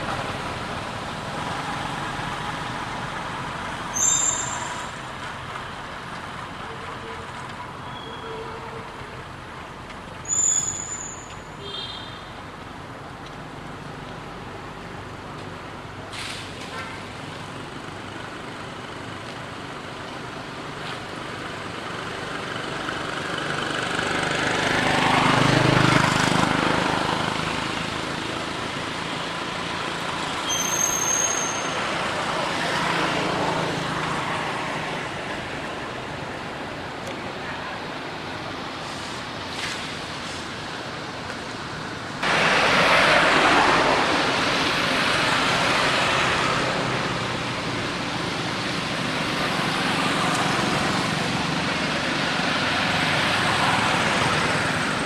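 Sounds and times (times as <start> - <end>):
traffic vehicles passing: 0.0 - 55.0.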